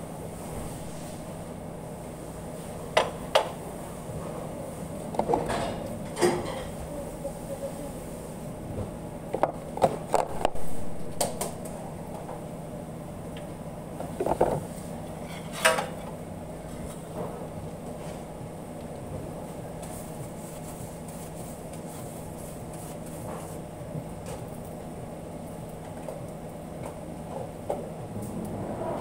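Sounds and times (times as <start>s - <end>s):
kitchen ventilation hum: 0.0s - 29.0s.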